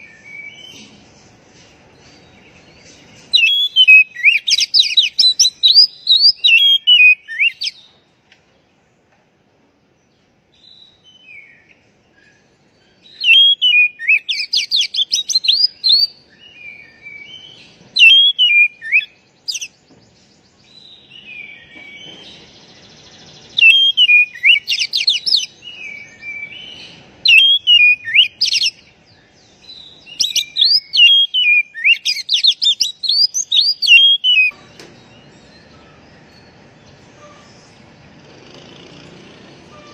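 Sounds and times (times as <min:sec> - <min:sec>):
bird singing whistled notes: 0:00.0 - 0:01.0, 0:02.0 - 0:07.9, 0:10.6 - 0:37.9.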